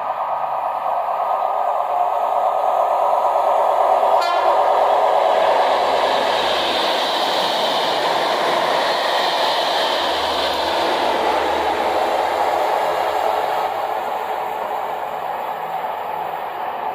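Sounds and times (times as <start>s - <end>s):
train wheels rushing on rails: 0.0s - 16.9s.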